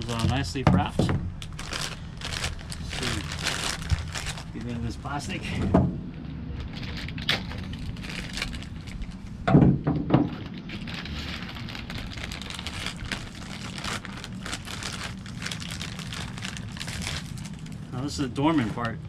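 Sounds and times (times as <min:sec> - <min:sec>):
plastic wrapping crinkling: 0:00.0 - 0:05.2, 0:06.6 - 0:09.4, 0:10.3 - 0:19.0.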